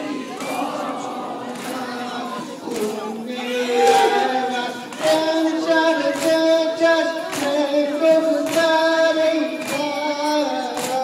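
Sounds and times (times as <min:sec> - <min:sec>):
high voices chanting a lament: 0:00.0 - 0:11.0.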